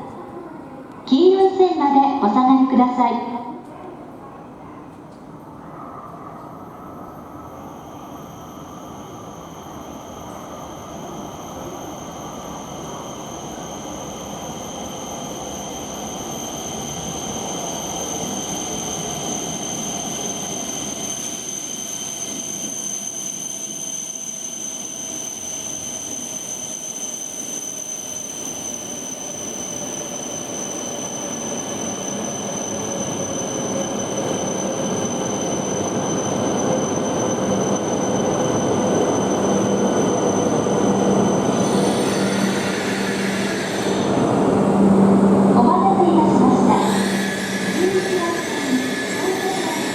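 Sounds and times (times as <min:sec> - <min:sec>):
train braking rumble: 0:05.3 - 0:49.9.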